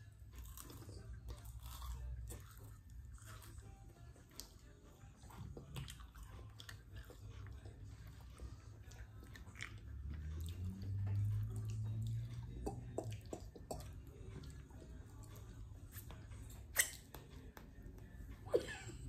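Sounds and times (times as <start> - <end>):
chewing and crunching cookie: 0.0 - 18.4.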